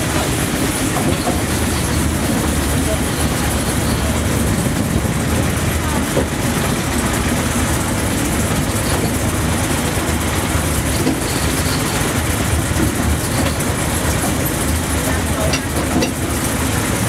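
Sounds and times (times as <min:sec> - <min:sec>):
train engine drone: 0:00.0 - 0:17.0
train wheels rumbling on rails: 0:00.0 - 0:17.0.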